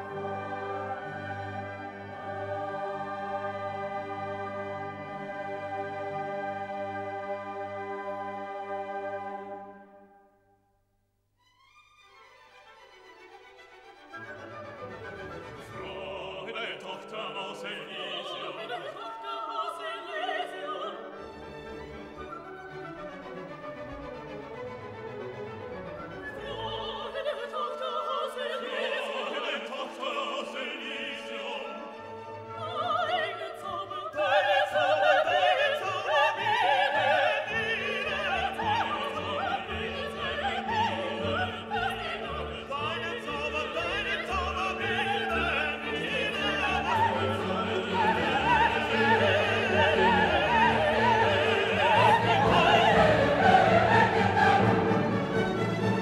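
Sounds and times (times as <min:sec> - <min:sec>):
operatic singing: 0:00.0 - 0:09.8, 0:15.1 - 0:22.0, 0:26.0 - 0:56.0
orchestra playing: 0:00.0 - 0:10.2, 0:11.8 - 0:19.0, 0:20.6 - 0:27.4, 0:34.8 - 0:56.0.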